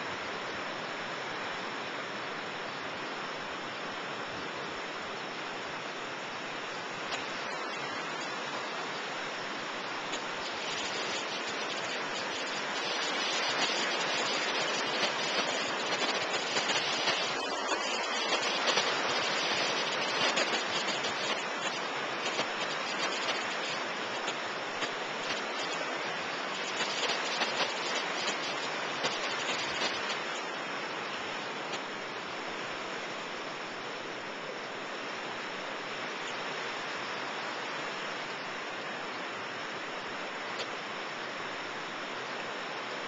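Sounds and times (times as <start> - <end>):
ocean surf breaking on beach: 0.0 - 43.0.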